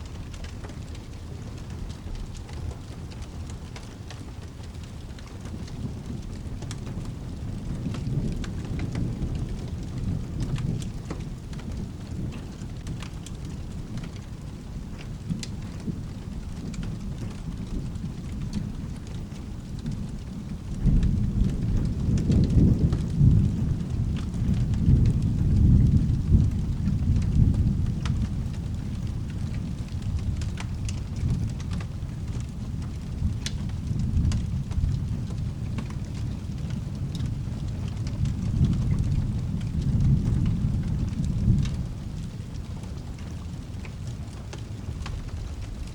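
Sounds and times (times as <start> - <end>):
steady rain: 0.0 - 45.9
rolling thunder: 5.4 - 45.9.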